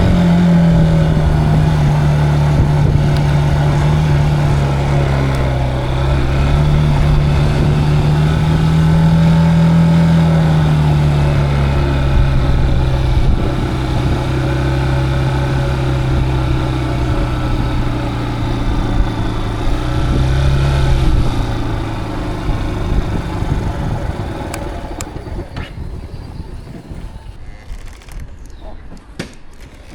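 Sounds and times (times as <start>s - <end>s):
motorcycle engine running: 0.0s - 27.6s.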